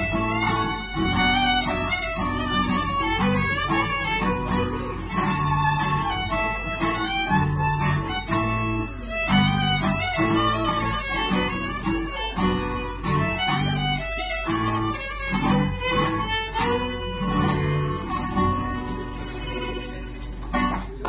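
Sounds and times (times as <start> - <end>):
acoustic guitar strumming: 0.0 - 21.0
fiddle melody: 0.0 - 21.0.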